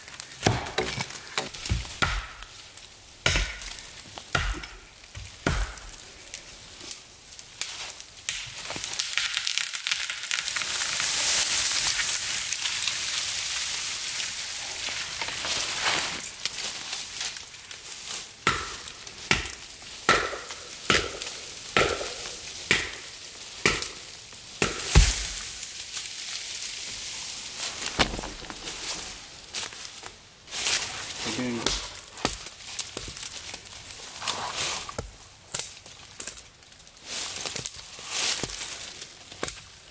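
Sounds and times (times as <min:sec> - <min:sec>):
tree falling through branches: 0:00.0 - 0:18.3, 0:20.6 - 0:39.8.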